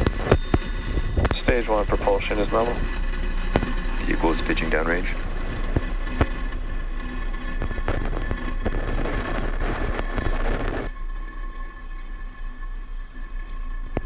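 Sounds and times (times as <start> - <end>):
rocket engine rumble with crackles: 0.0 - 14.0.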